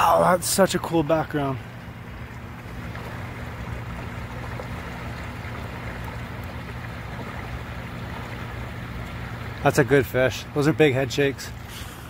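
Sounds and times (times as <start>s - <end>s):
low machine hum: 0.0s - 12.0s
water rushing: 0.0s - 12.0s.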